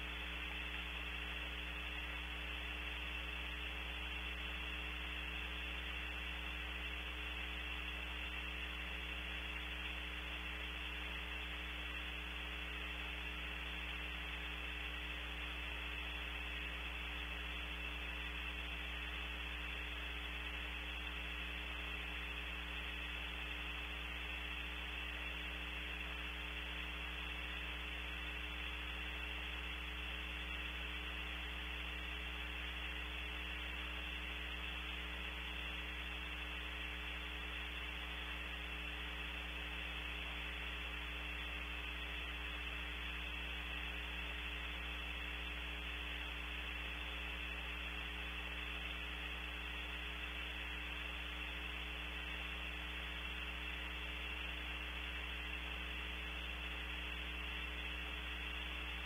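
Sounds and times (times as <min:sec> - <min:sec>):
electrical hum and hiss: 0:00.0 - 0:59.0
low mains hum: 0:00.0 - 0:59.0.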